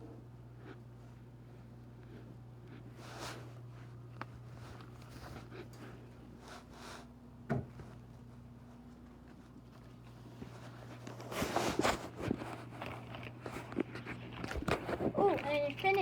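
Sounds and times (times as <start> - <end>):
rustling and handling noises: 3.0 - 16.0.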